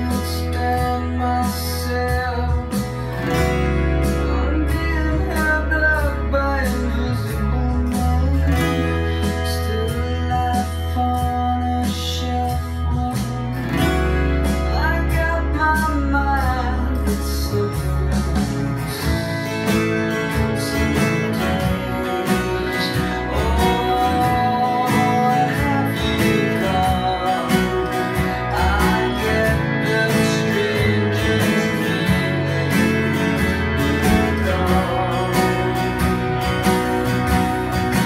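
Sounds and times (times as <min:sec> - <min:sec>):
acoustic guitar strumming chords: 0:00.0 - 0:38.0
deep bass line: 0:00.0 - 0:38.0
gliding melody line: 0:00.0 - 0:38.0.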